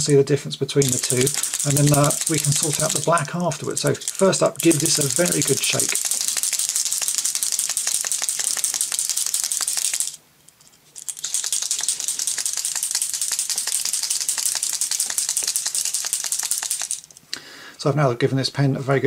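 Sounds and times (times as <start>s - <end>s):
marker pen ball rattling: 0.8s - 10.2s, 11.0s - 17.2s.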